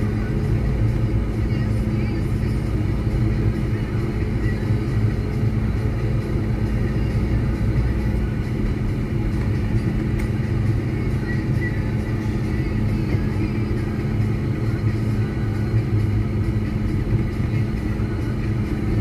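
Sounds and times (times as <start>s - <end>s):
car engine hum: 0.0s - 19.0s.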